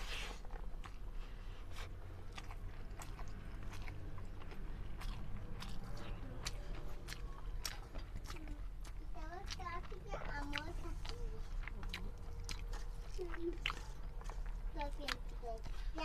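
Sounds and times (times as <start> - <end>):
low steady hum: 0.0 - 16.0
chewing and smacking: 0.1 - 16.0.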